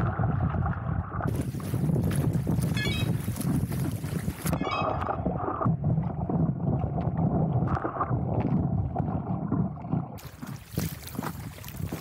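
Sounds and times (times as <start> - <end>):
water splashing against paddleboard: 0.0 - 12.0
wind on microphone: 0.0 - 12.0.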